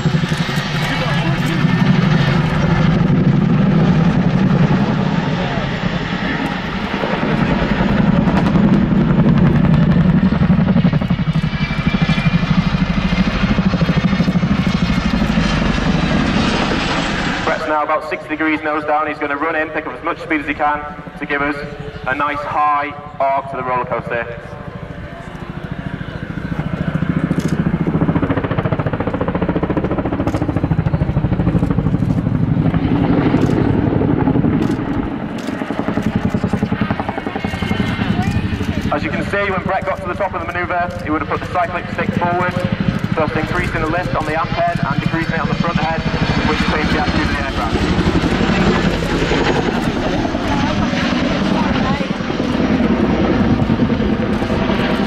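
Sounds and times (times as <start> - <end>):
helicopter rotors beating: 0.0 - 55.0.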